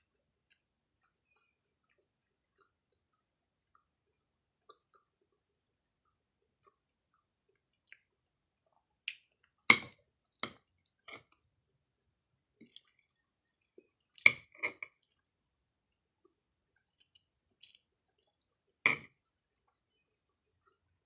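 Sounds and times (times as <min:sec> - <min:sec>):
faint chewing: 0:00.0 - 0:11.5, 0:12.5 - 0:21.0.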